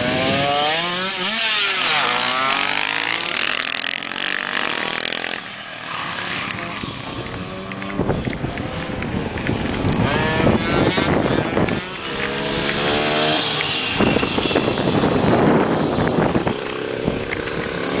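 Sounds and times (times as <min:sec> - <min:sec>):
off-road motorcycle revving past: 0:00.0 - 0:18.0.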